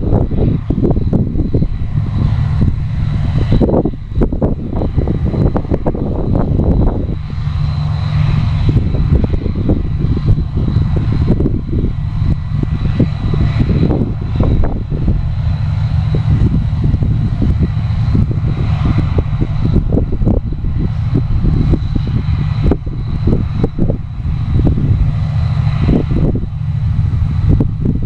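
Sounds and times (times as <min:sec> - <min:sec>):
combine harvester engine drone: 0:00.0 - 0:28.0
high whine: 0:00.0 - 0:28.0
rough rumbling: 0:00.0 - 0:28.0.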